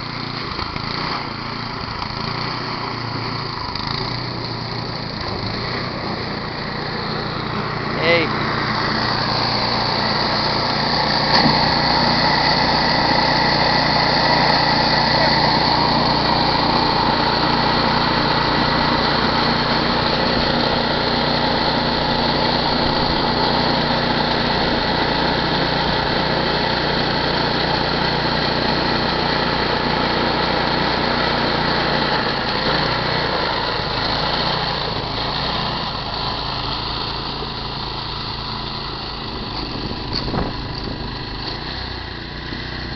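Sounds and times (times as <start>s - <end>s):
snowblower engine running: 0.0s - 42.9s.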